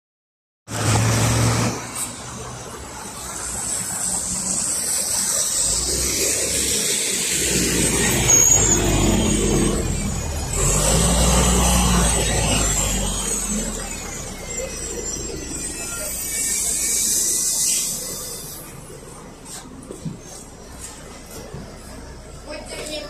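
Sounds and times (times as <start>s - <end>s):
high squeal: 0.7s - 19.3s
bus driving past: 0.7s - 23.0s.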